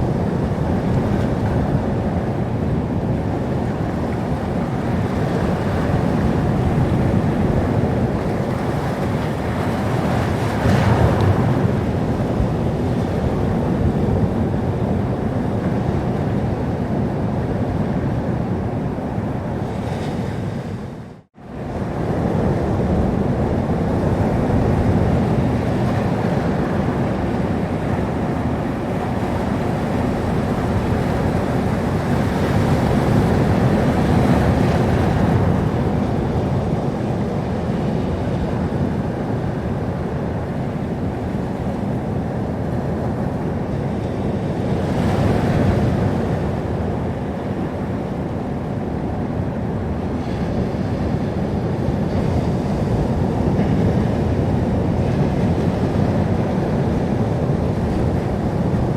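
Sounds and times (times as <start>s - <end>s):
waves breaking on shore: 0.0s - 58.9s
wind on microphone: 0.0s - 58.9s.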